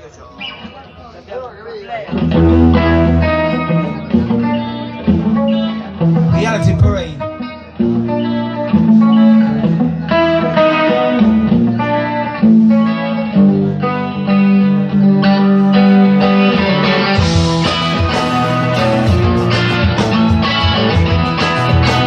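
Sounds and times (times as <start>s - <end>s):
guitar notes and chords ringing: 2.1s - 22.0s.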